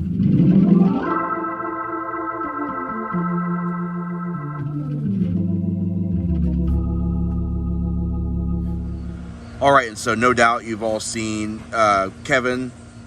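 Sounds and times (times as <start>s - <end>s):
organ chords: 0.0s - 10.6s.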